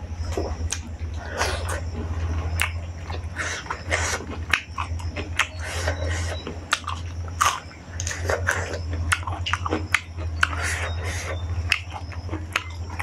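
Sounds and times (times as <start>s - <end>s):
chewing crunchy food: 0.0s - 13.0s
steady low hum: 0.0s - 13.0s.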